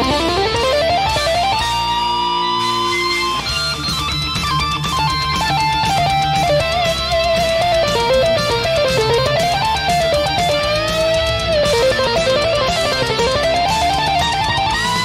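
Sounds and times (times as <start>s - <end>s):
distorted electric guitars: 0.0s - 15.0s
synthesizer lead solo: 0.0s - 15.0s.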